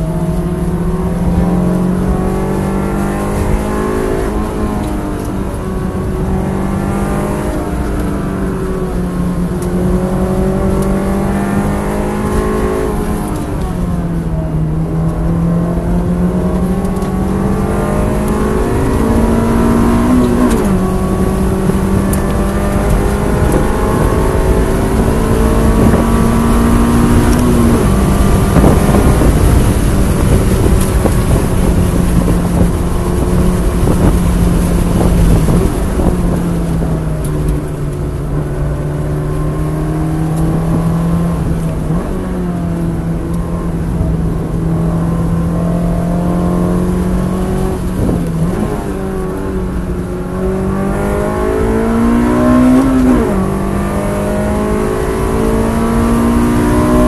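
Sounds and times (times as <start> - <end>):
car engine at high revs: 0.0 - 57.0
road and wind noise: 0.0 - 57.0.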